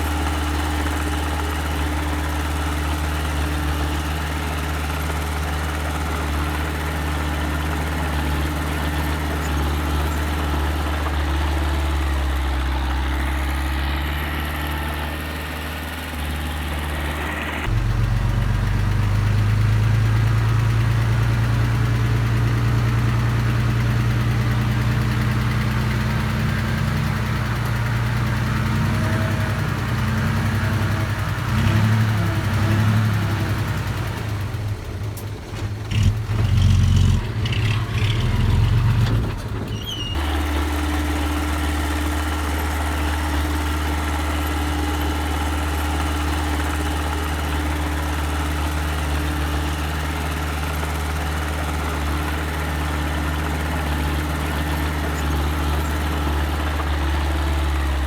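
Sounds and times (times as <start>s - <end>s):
small earthmoving machine engines: 0.0s - 58.0s.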